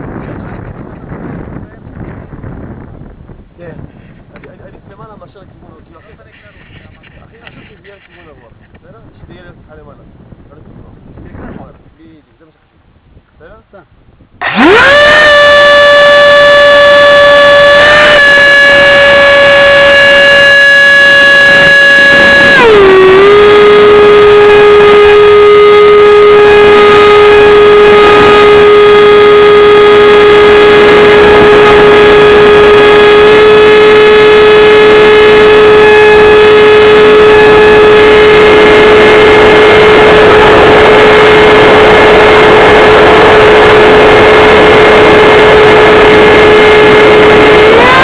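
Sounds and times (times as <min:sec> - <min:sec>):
electric ducted fan whine: 0:00.0 - 0:48.0.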